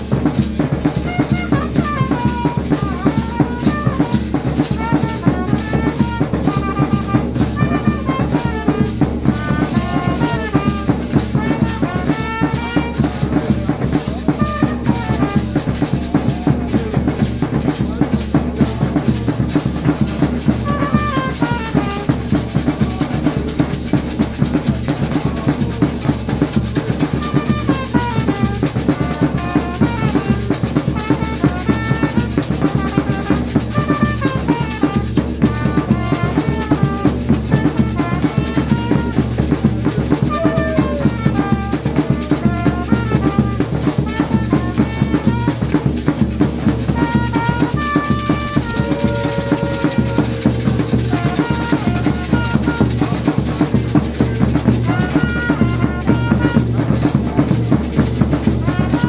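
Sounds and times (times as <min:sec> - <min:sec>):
double-headed drums beaten with sticks: 0:00.0 - 0:59.0
trumpet playing melodic phrases: 0:00.0 - 0:59.0.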